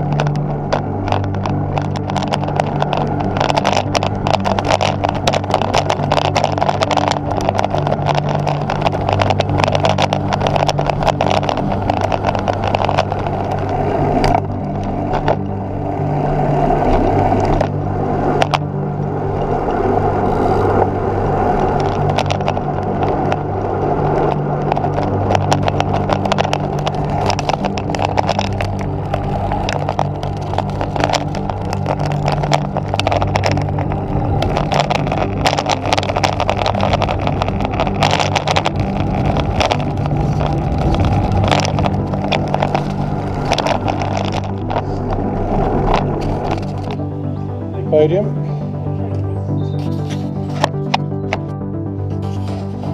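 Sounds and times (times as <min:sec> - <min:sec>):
knocks and rattles from road: 0:00.0 - 0:18.8, 0:20.2 - 0:47.2
low steady hum: 0:00.0 - 0:52.9
wind and road noise rushing: 0:00.0 - 0:52.9.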